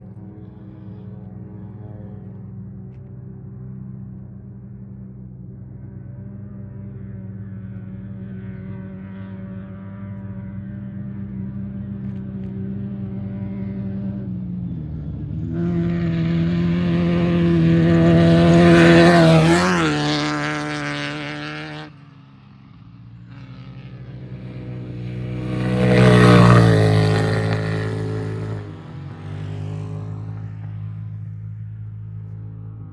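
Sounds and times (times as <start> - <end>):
off-road vehicles passing at speed: 0.0 - 32.9
steady engine hum: 0.0 - 32.9.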